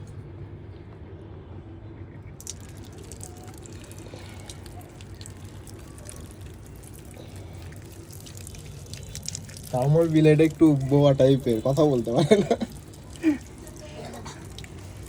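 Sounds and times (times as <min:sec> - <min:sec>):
water splashing and dripping: 0:02.4 - 0:15.0.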